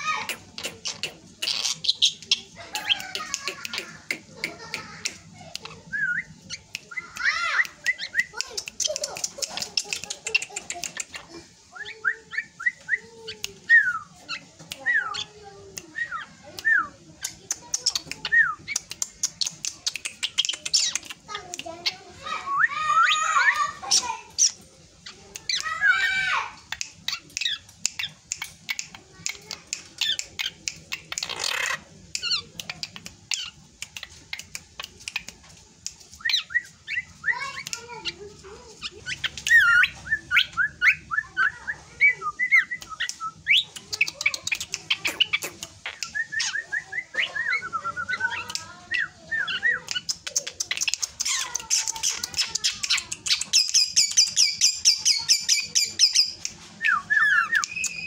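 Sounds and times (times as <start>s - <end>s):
bird singing varied song: 0.0s - 58.0s.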